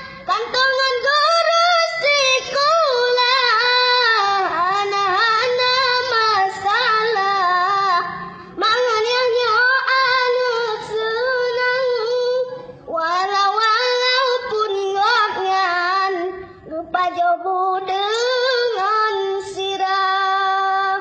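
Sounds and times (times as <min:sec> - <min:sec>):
child singing: 0:00.3 - 0:21.0.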